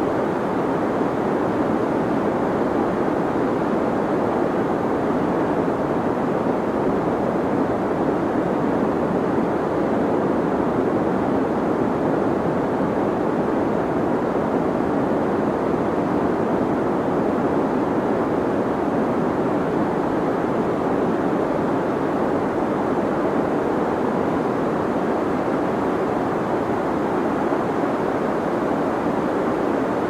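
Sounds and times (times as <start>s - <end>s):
deep white noise hiss: 0.0s - 30.0s.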